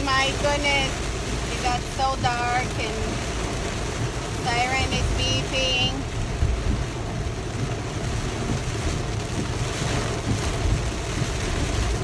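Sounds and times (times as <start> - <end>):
road and wind noise in car: 0.0 - 12.0.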